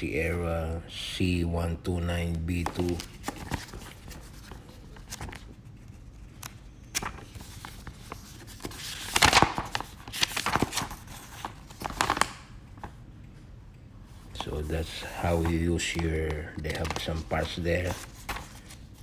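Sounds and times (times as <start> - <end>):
paper pages rustling: 2.3 - 13.4, 14.1 - 19.0.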